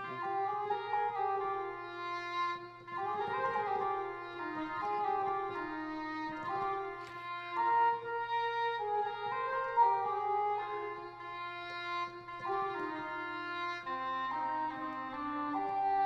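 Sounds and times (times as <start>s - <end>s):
english horn melody: 0.0s - 16.0s.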